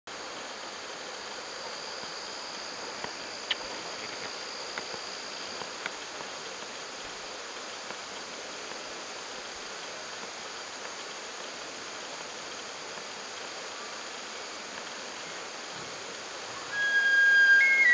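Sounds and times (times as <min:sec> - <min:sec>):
insect chorus: 0:00.1 - 0:17.9.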